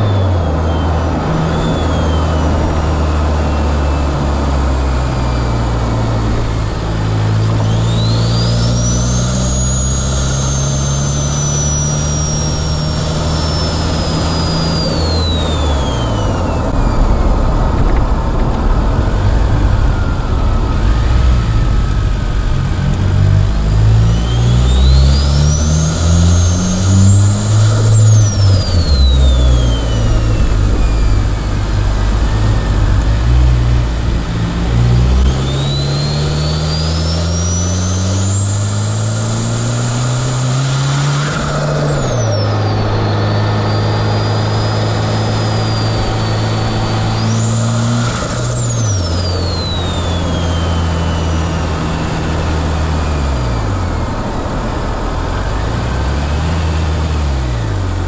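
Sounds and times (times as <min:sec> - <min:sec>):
turbo whistle: 0:00.0 - 0:17.7, 0:18.8 - 0:54.4
car engine accelerating hard: 0:00.0 - 0:58.0.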